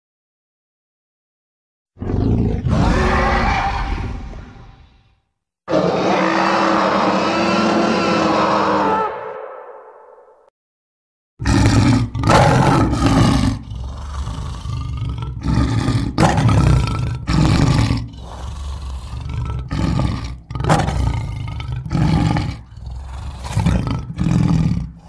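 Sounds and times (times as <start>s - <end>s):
creature growling roars: 2.0s - 4.8s, 5.7s - 10.3s, 11.4s - 25.0s.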